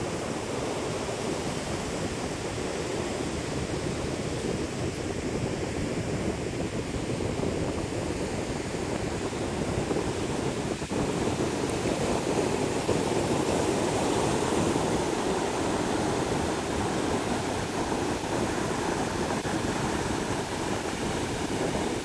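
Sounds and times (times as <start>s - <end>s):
ocean surf washing on beach: 0.0s - 22.0s.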